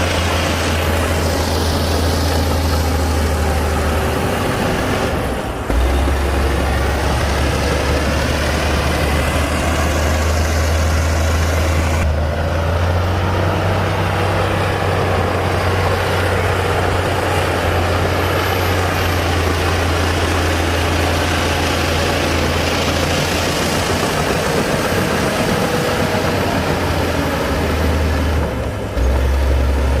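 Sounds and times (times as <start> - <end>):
bulldozer diesel engine humming: 0.0 - 30.0.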